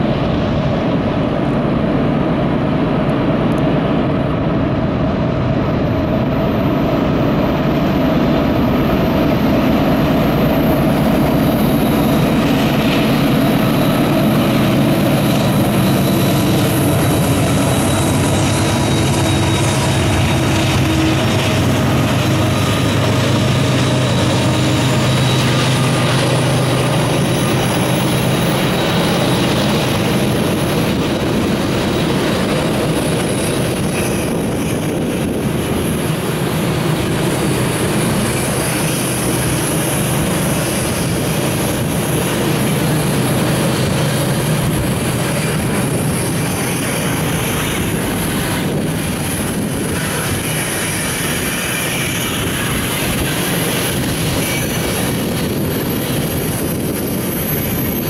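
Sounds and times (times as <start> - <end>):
diesel locomotive engine drone: 0.0 - 58.0
freight cars rumbling on rails: 0.0 - 58.0.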